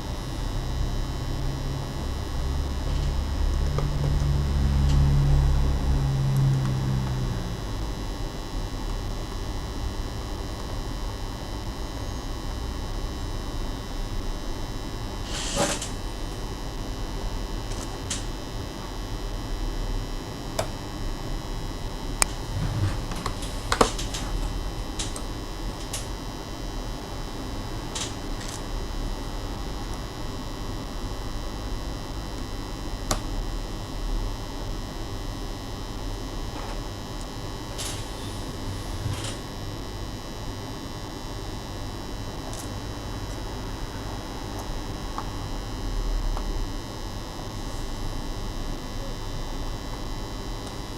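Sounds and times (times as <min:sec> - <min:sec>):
electrical hum: 0:00.0 - 0:50.9.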